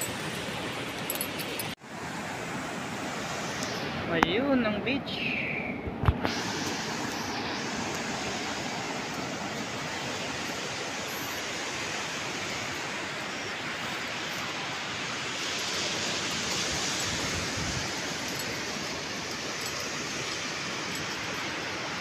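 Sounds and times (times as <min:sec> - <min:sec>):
sea surf rushing: 0:00.0 - 0:22.0.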